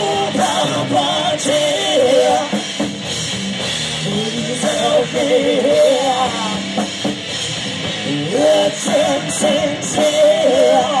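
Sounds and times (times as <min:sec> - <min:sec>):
heavy metal band playing: 0:00.0 - 0:11.0.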